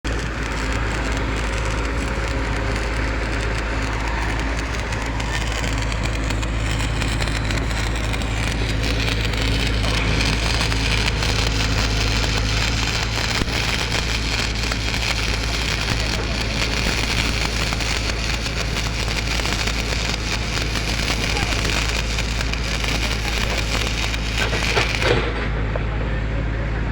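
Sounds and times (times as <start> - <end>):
welding arc crackling: 0.0 - 25.6
steady low hum: 0.0 - 26.9.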